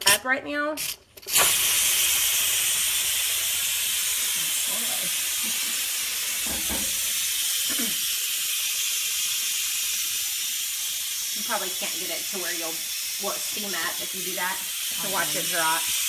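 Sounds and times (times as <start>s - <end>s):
pressure cooker venting steam: 0.8s - 16.0s.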